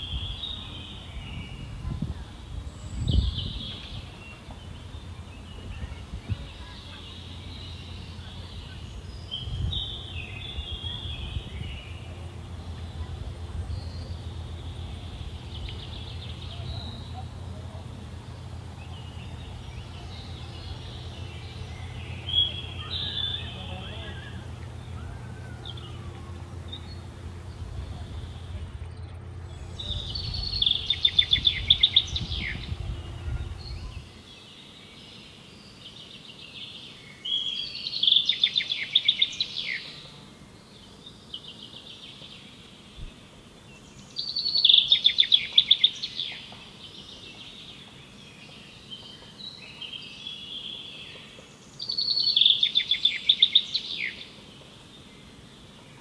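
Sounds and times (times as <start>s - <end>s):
low steady hum: 0.0s - 56.0s
songbird trilling song: 0.0s - 56.0s.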